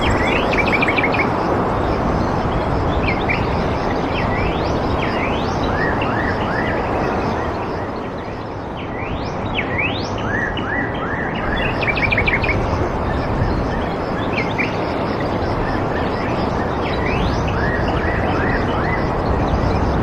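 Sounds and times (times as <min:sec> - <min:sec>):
birds whistling and chirping: 0:00.0 - 0:01.4, 0:03.0 - 0:20.0
steady rushing noise: 0:00.0 - 0:20.0.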